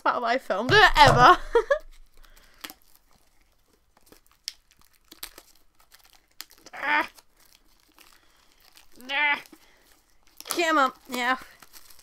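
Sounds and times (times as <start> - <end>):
plastic wrapping crinkling: 0.7 - 12.0.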